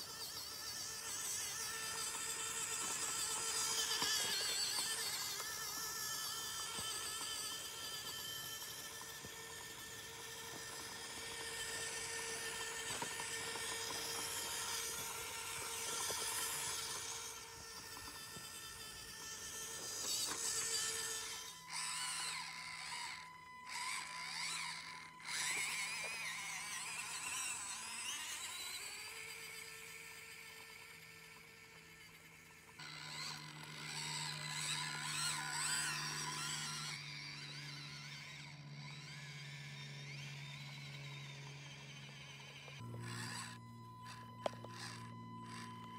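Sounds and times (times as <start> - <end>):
small electric motor whine: 0.0 - 45.9.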